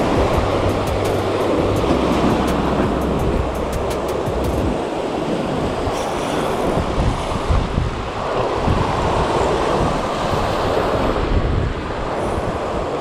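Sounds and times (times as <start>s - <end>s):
sea surf breaking over rocks: 0.0s - 13.0s
wind buffeting microphone: 0.0s - 13.0s.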